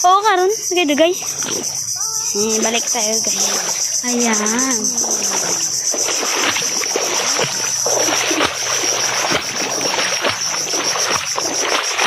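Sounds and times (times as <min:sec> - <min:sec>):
insects chorus: 0:00.0 - 0:12.0
water sloshing and splashing: 0:00.9 - 0:12.0.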